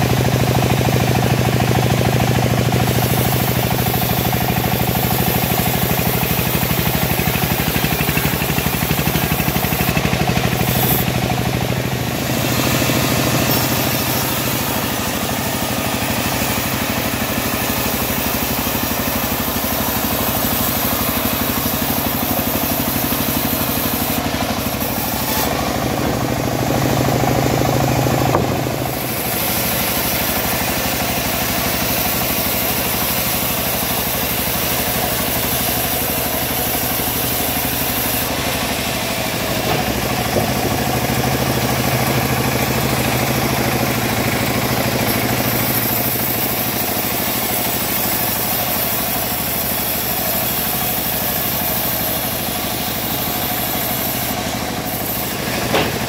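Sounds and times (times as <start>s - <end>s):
bandsaw sawing log: 0.0s - 56.0s.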